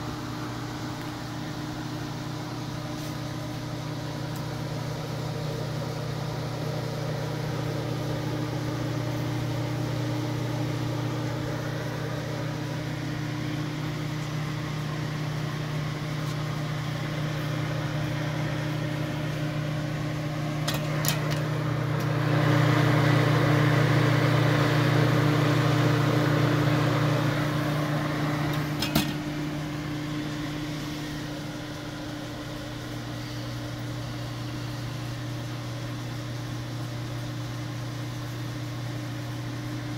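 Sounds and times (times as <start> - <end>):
oven fan humming: 0.0 - 39.9.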